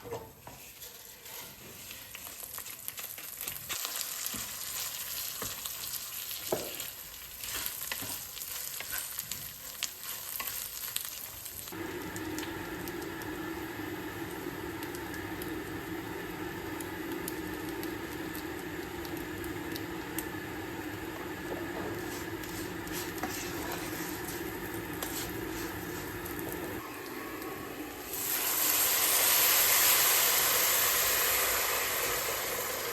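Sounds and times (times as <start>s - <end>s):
food sizzling in a pan: 0.6s - 32.9s.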